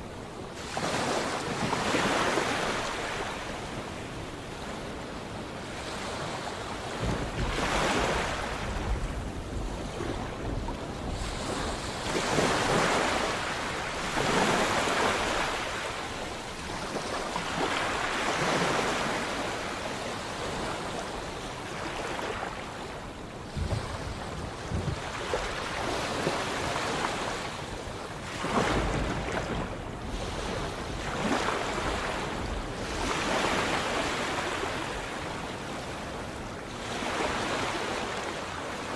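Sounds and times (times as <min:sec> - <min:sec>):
sea waves breaking: 0:00.2 - 0:38.9.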